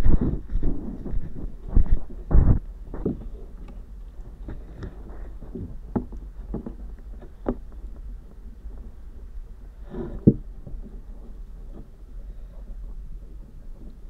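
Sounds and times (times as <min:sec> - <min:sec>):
low underwater rumble: 0:00.0 - 0:14.0.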